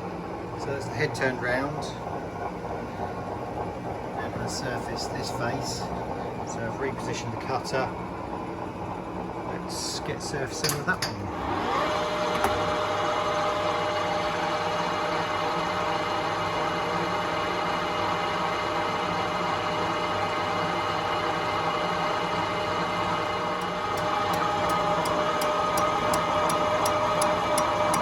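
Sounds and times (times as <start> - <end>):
lathe motor whine and hum: 0.0 - 28.0.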